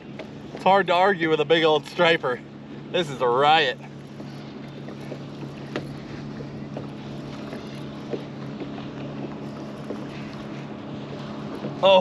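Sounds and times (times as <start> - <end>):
boat engine hum: 0.0 - 12.0
water splashing: 0.0 - 12.0
wind: 0.0 - 12.0.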